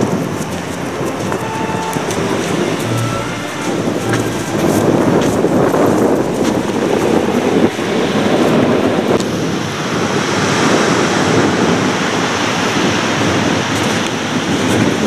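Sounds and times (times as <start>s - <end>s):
surf washing on beach: 0.0s - 15.0s
wind on microphone: 0.0s - 15.0s.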